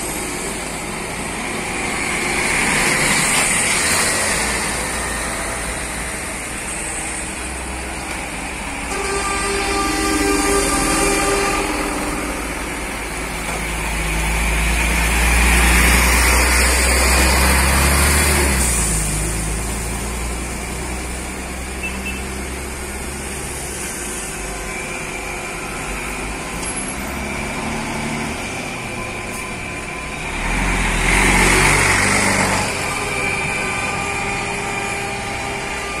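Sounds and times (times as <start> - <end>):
buses driving past: 0.0 - 36.0.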